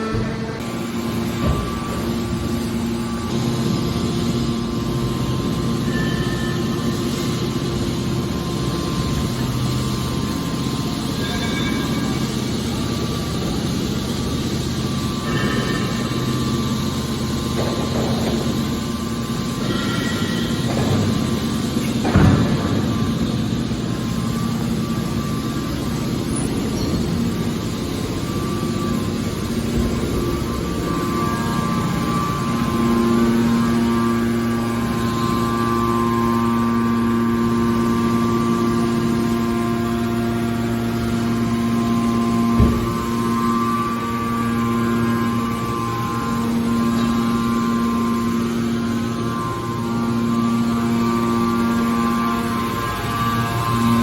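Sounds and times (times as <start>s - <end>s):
hydraulic machine hum: 0.0s - 54.0s.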